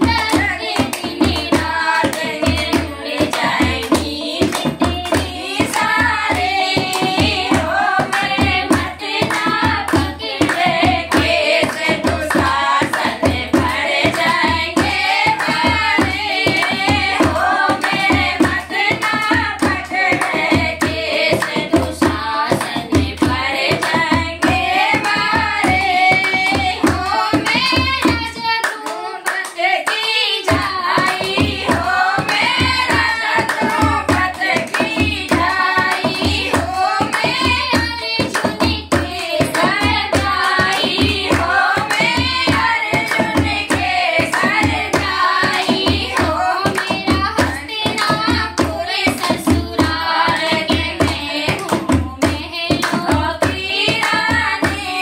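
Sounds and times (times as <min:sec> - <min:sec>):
hand drum beat: 0:00.0 - 0:55.0
rhythmic hand clapping: 0:00.0 - 0:55.0
women singing together: 0:00.0 - 0:55.0.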